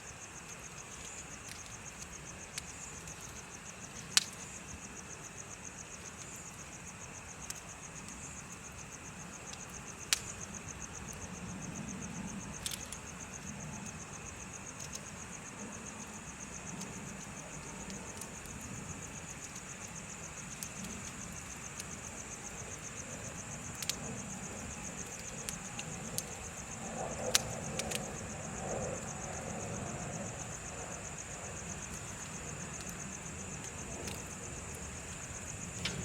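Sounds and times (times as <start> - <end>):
crickets trilling: 0.0 - 36.0
bonfire crackling and popping: 0.1 - 36.0.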